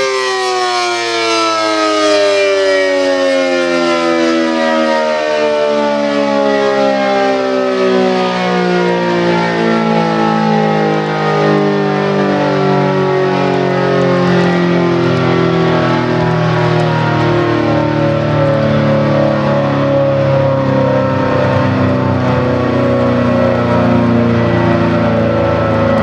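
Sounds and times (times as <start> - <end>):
siren winding down: 0.0 - 26.0.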